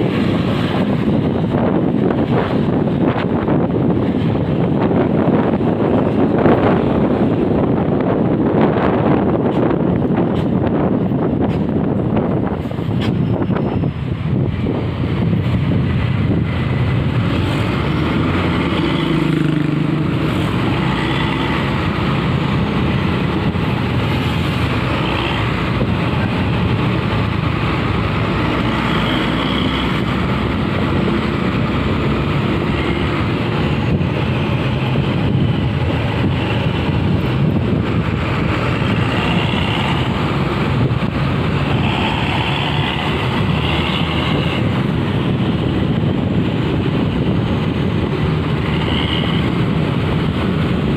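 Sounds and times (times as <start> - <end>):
bus engine drone: 0.0 - 50.9
tyre and wind noise: 0.0 - 50.9.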